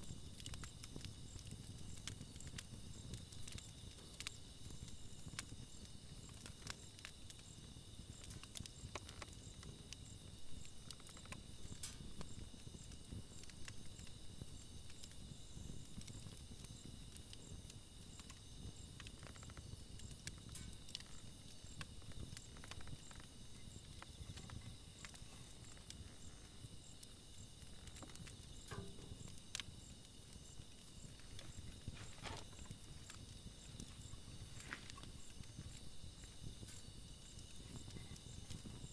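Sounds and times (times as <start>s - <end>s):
campfire crackling and popping: 0.0s - 38.9s
insect trill: 0.0s - 38.9s
low rumble of flame: 0.0s - 38.9s.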